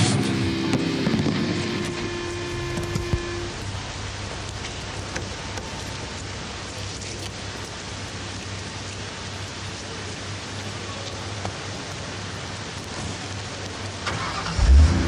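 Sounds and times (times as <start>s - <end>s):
low constant hum: 0.0s - 14.0s
steady hiss: 0.0s - 15.0s.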